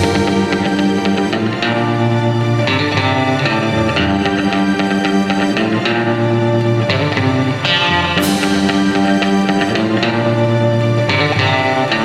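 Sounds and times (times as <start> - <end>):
guitar background music: 0.0 - 12.0.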